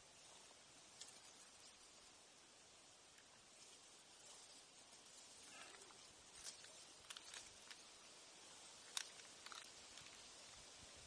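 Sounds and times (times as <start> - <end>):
quiet hiss: 0.0 - 11.0.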